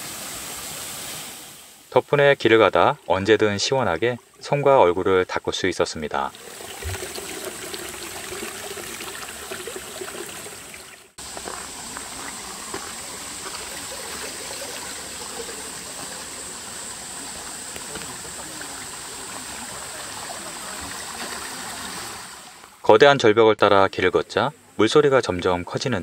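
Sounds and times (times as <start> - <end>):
water running along wooden flume: 0.0 - 23.0
water trickling into troughs: 1.9 - 22.9.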